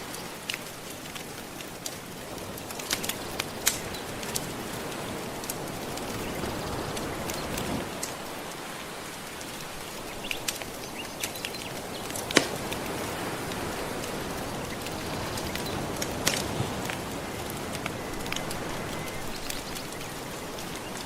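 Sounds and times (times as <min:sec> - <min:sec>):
ocean waves washing: 0:00.0 - 0:21.0
wood fire crackling: 0:00.0 - 0:21.0.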